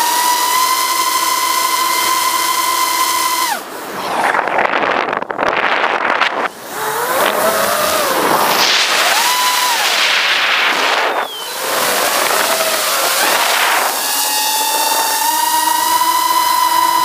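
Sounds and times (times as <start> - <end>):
quadcopter motors whining: 0.0 - 17.0
rough rushing noise: 0.0 - 17.0.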